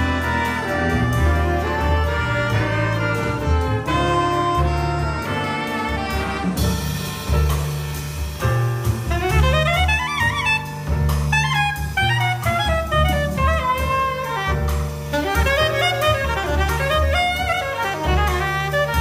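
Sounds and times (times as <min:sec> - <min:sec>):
soprano saxophone solo: 0:00.0 - 0:07.0, 0:09.0 - 0:19.0
bass line: 0:00.0 - 0:19.0
drums: 0:00.0 - 0:19.0.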